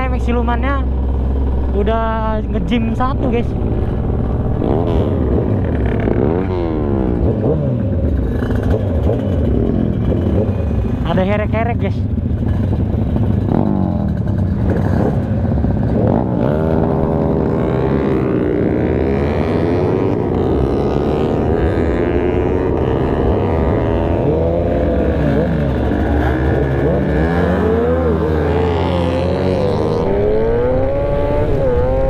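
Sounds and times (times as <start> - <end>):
motorcycles revving and accelerating: 0.0 - 32.0.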